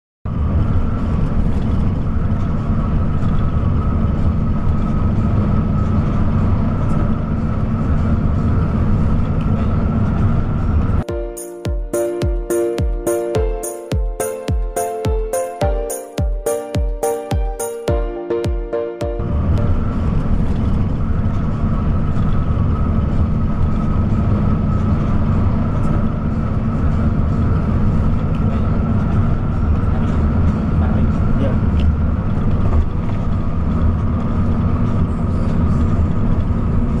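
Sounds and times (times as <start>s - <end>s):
bus engine and road noise: 0.3s - 13.3s, 18.2s - 37.0s.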